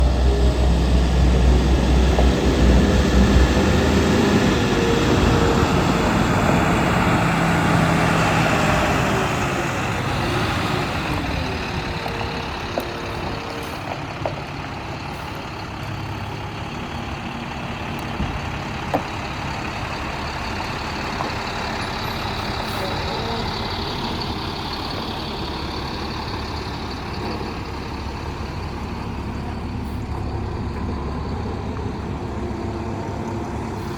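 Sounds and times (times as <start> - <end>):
diesel truck engine running: 0.0 - 33.9.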